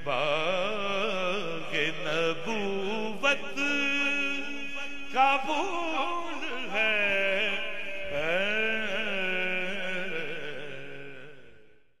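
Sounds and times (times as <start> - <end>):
man singing long held notes: 0.0 - 11.6.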